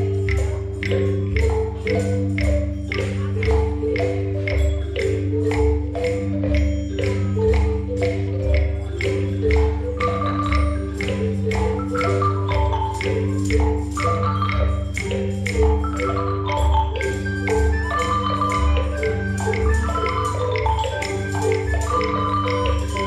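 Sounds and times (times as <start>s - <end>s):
children playing wooden xylophones: 0.0s - 23.0s.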